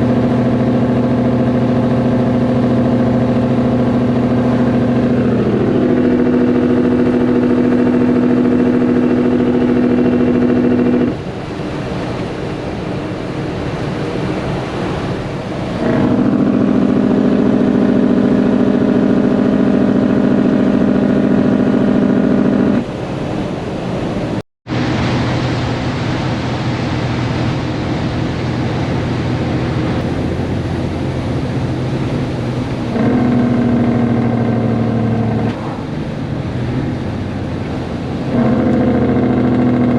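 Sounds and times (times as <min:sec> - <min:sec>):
loud diesel truck engine: 0:00.0 - 0:39.9.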